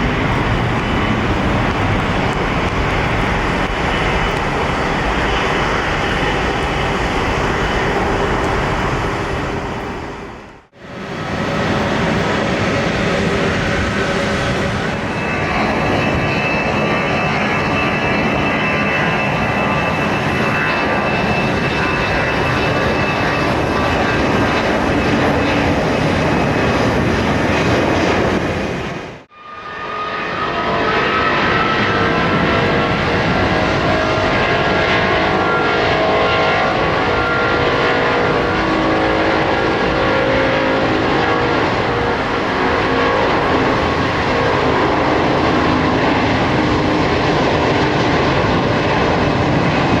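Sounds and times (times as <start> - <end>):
jet airliner engines: 0.0 - 50.0.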